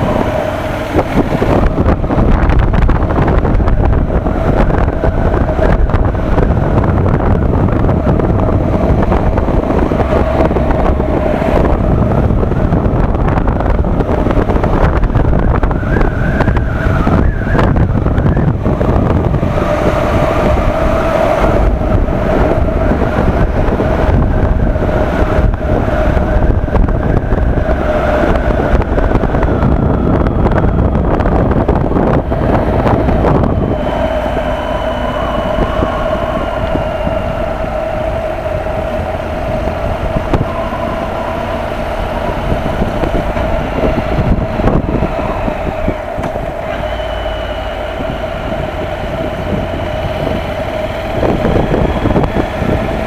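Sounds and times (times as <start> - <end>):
wind rush over microphone: 0.0 - 53.0.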